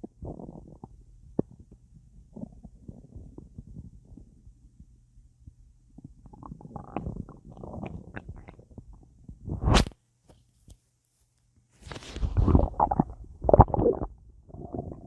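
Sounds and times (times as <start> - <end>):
stomach gurgling: 0.0 - 5.0, 5.8 - 9.9, 11.9 - 15.0.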